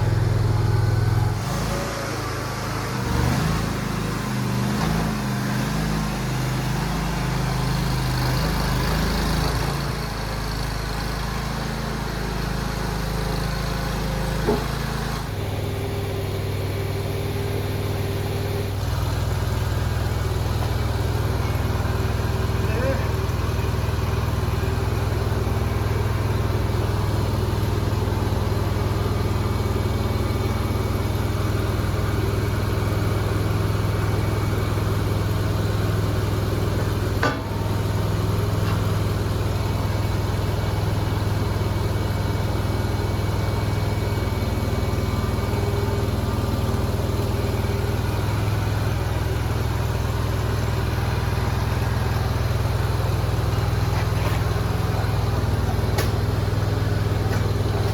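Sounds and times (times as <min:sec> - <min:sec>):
skid steer engine running: 0:00.0 - 0:57.9.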